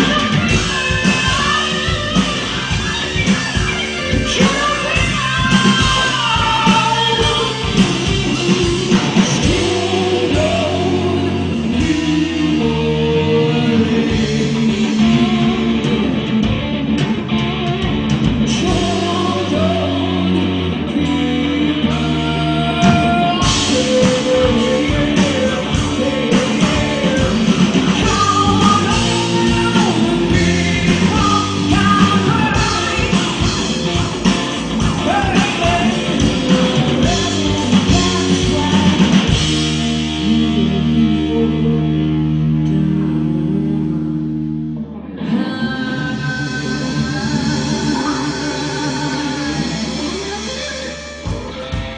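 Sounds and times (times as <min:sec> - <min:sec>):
drum kit: 0:00.0 - 0:43.6, 0:46.1 - 0:51.9
woman singing lead: 0:00.0 - 0:44.4, 0:45.1 - 0:51.9
bass guitar: 0:00.0 - 0:51.9
electric guitars: 0:00.0 - 0:51.9.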